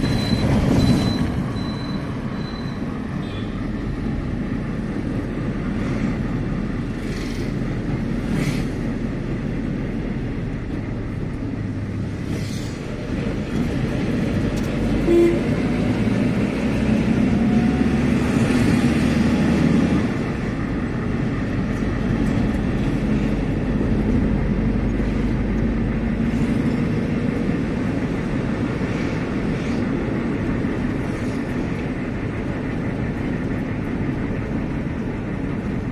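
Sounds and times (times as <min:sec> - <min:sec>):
vehicle engine and tyre rumble: 0:00.0 - 0:35.9.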